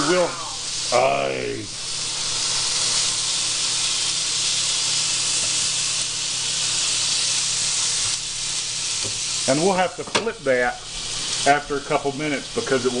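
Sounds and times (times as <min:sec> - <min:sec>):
bacon sizzling on grill: 0:00.0 - 0:13.0.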